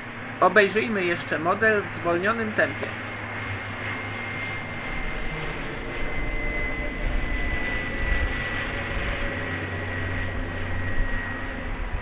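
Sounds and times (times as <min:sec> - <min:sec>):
gusty low rumble: 0:00.0 - 0:12.0
model plane motor whine: 0:01.0 - 0:12.0.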